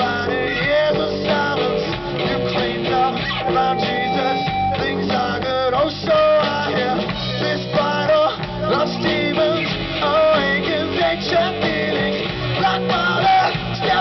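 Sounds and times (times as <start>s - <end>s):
electric guitar notes bending: 0.0s - 14.0s
rock band playing live: 0.0s - 14.0s.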